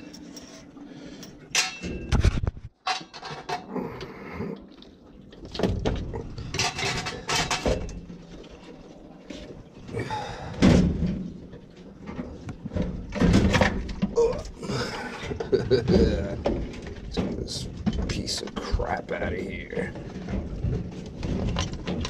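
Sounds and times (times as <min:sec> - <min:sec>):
tools and metal parts clunking: 0:00.0 - 0:03.7, 0:05.4 - 0:09.5, 0:10.6 - 0:22.0.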